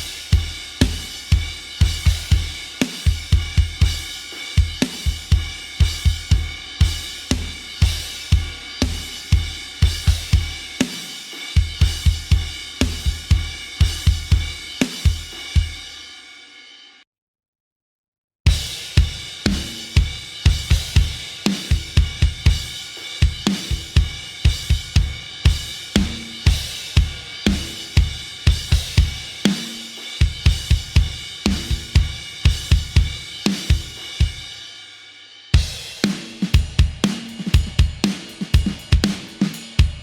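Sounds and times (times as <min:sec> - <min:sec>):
drum kit beat: 0:00.0 - 0:16.3, 0:18.5 - 0:40.0.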